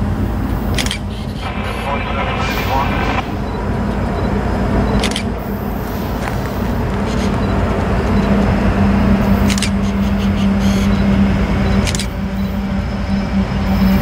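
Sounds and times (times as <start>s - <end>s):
broad train rumble: 0.0s - 14.0s
locomotive engine drone: 0.0s - 14.0s.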